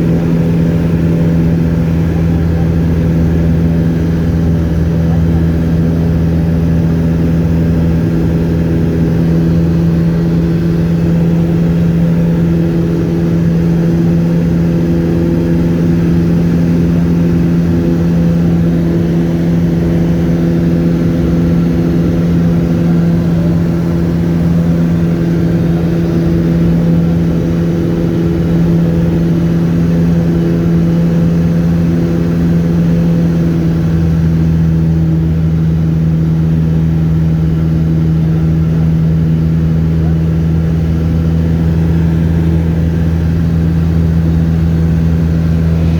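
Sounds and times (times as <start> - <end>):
light aircraft engine drone: 0.0 - 45.9.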